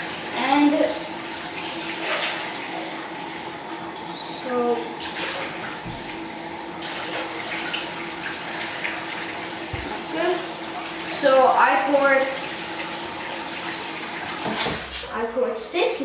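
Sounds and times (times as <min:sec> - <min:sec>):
water pouring and splashing: 0:00.0 - 0:03.3, 0:04.6 - 0:15.1
bathtub tap running: 0:00.0 - 0:15.1.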